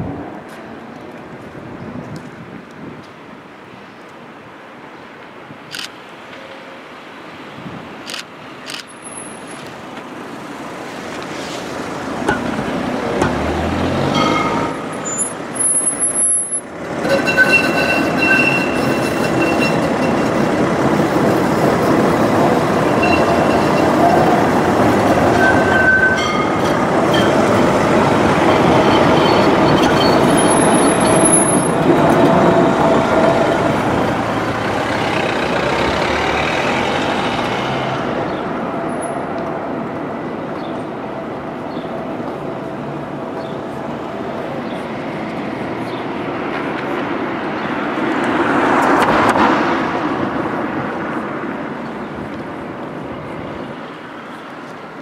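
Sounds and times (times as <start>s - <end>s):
tram wheels rumbling on rails: 8.9s - 55.0s.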